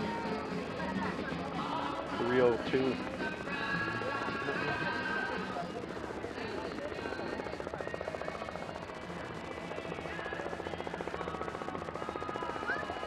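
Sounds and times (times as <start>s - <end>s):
engine running with rapid pulse: 0.0s - 13.0s.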